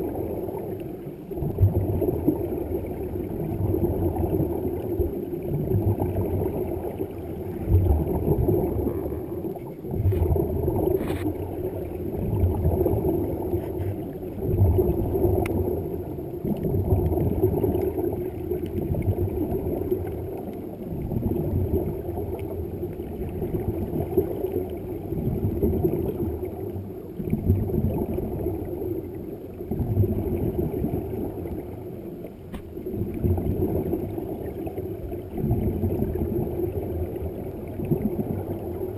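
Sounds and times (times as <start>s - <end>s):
underwater air bubbles gurgling: 0.0s - 38.9s.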